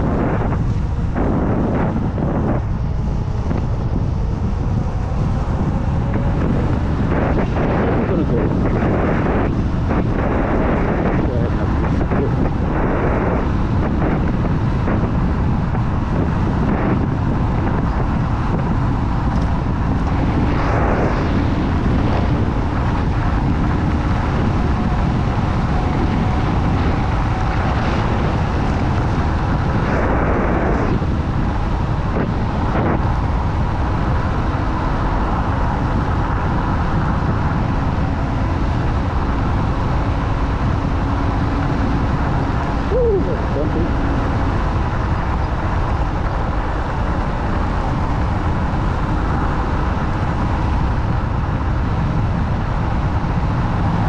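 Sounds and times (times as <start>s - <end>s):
tyre and road noise: 0.0s - 54.0s
wind rushing over microphone: 0.0s - 54.0s.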